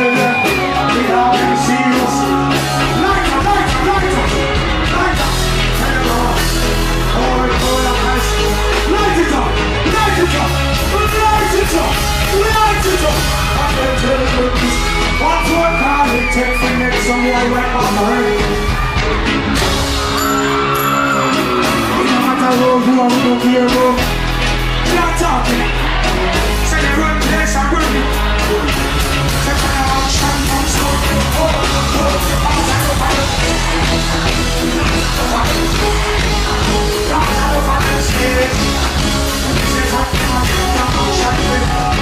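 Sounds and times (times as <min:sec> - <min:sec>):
person rapping and shouting: 0:00.0 - 0:18.7, 0:21.8 - 0:24.2, 0:24.8 - 0:25.8, 0:26.4 - 0:42.0
bass-driven dancehall beat: 0:00.0 - 0:20.8, 0:21.5 - 0:42.0.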